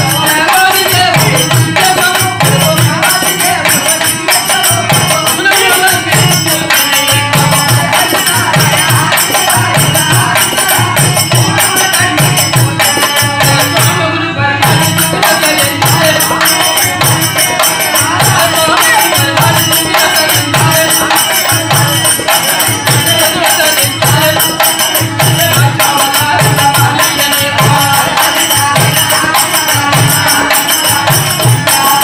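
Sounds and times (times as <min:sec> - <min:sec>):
steady drum rhythm: 0:00.0 - 0:32.0.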